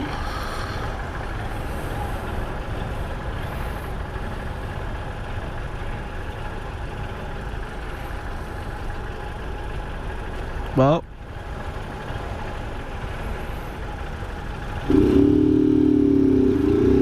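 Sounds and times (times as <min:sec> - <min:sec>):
motorcycle engine drone: 0:00.0 - 0:17.0
wind and road rush: 0:00.0 - 0:17.0.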